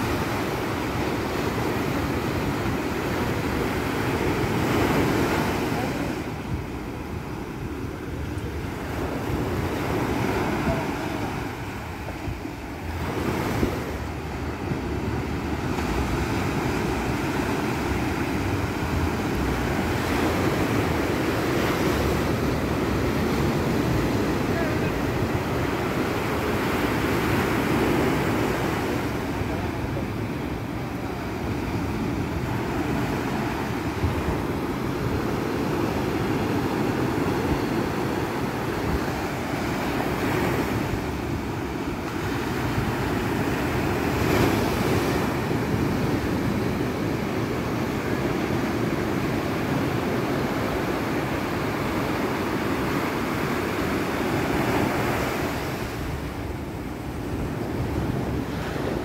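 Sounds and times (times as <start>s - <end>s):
sea surf rushing: 0.0s - 59.0s
wind buffeting microphone: 0.0s - 59.0s.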